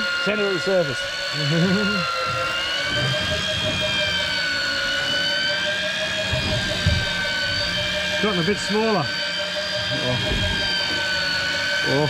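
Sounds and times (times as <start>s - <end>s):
fishing reel motor whining: 0.0s - 12.0s.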